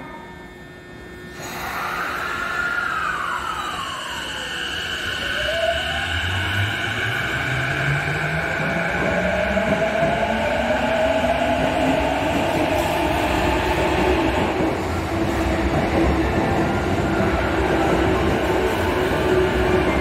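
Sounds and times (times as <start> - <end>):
subway train motor whine: 0.0 - 20.0.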